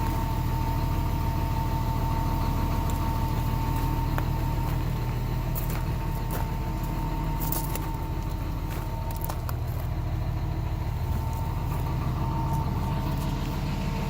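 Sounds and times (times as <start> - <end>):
excavator diesel engine idling: 0.0 - 14.0.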